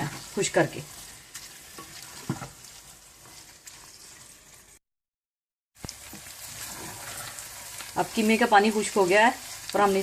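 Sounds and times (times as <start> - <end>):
meat sizzling in a pot: 0.0 - 4.8, 5.8 - 10.0.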